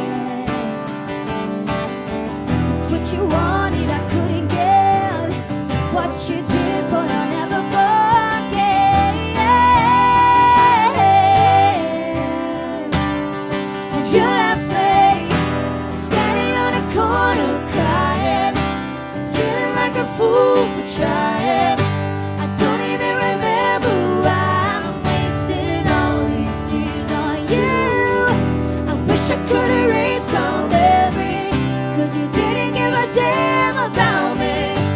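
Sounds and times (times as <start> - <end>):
woman singing: 0.0 - 0.8, 2.7 - 13.2, 13.9 - 18.7, 19.3 - 34.9
strummed acoustic guitars: 0.0 - 34.9.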